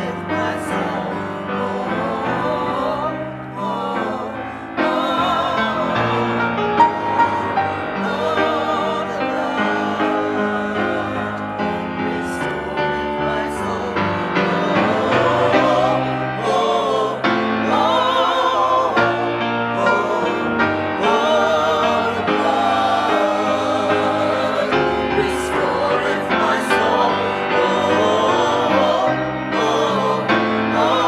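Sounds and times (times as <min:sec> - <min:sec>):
church choir singing: 0:00.0 - 0:31.0.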